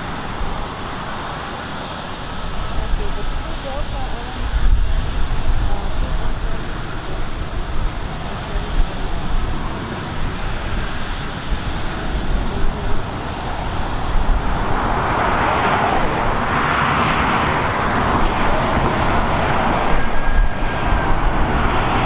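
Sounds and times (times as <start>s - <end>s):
jet airliner engine noise: 0.0s - 22.0s
road traffic: 0.0s - 22.0s.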